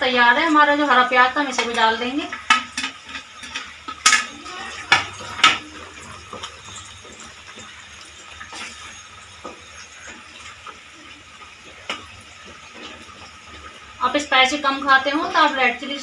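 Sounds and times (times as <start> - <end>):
spatula scraping pan: 0.8 - 15.6.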